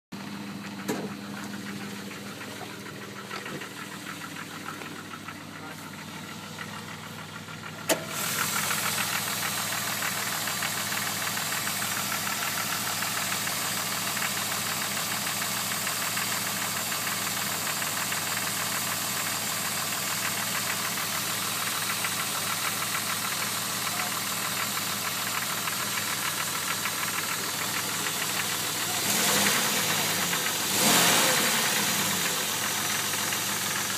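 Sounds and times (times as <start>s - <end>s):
engine running with rapid knocking: 0.2s - 33.9s.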